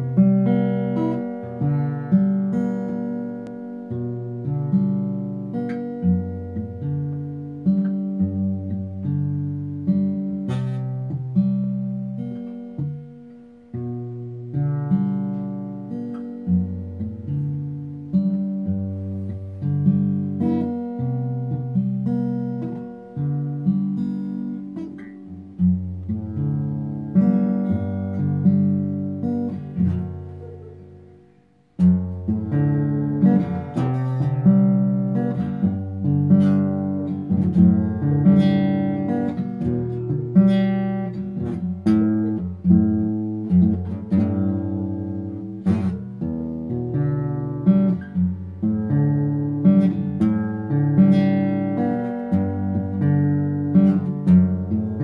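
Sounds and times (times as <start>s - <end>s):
acoustic guitar chords: 0.0s - 55.0s.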